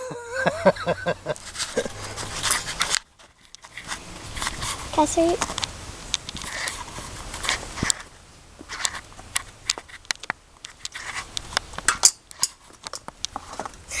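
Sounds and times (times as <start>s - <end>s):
soft rustles: 1.2s - 14.0s.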